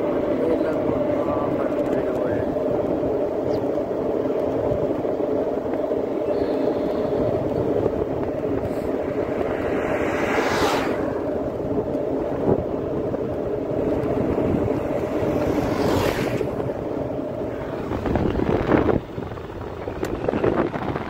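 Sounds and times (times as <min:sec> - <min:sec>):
passing vehicle rush: 0:00.0 - 0:21.0
vehicle engine droning: 0:00.0 - 0:21.0
wind buffeting microphone: 0:00.0 - 0:21.0.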